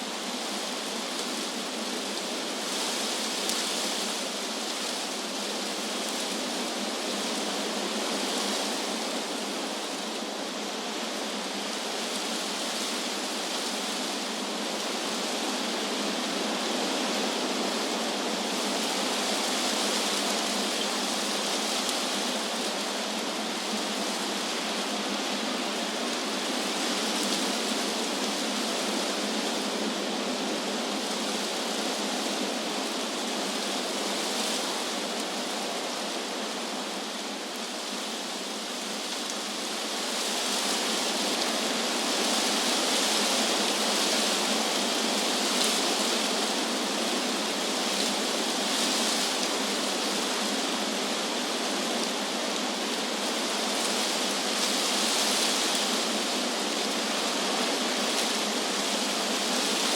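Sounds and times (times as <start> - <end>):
wind rustling leaves in trees: 0.0 - 59.9.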